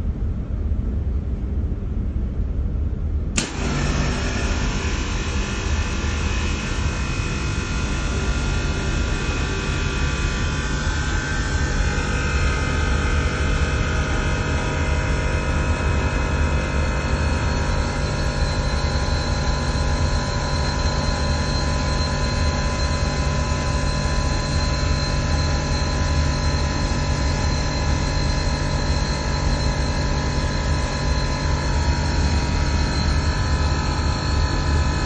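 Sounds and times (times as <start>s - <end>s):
hvac equipment humming: 0.0s - 35.0s
high whining tones: 3.4s - 35.0s.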